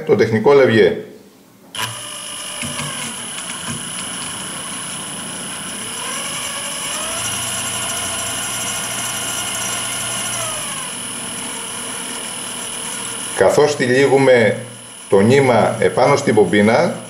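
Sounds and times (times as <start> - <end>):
electric fishing reel motor whine: 1.8 - 17.0.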